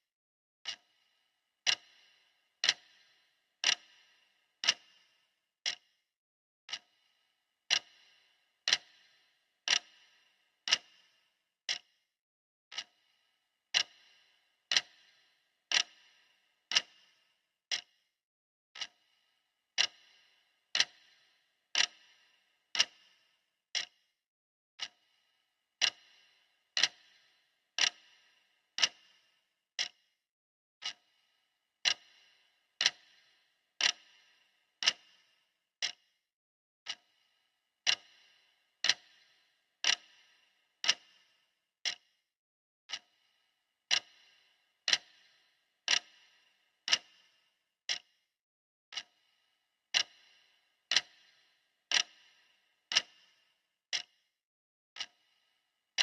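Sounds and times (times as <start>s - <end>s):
clock ticking: 0.6s - 5.9s, 6.7s - 7.1s, 7.7s - 11.9s, 12.7s - 13.1s, 13.7s - 17.9s, 18.8s - 19.2s, 19.8s - 24.0s, 24.8s - 25.2s, 25.8s - 30.1s, 30.8s - 31.2s, 31.8s - 36.1s, 36.8s - 42.2s, 42.9s - 48.2s, 48.9s - 54.2s, 55.0s - 55.4s.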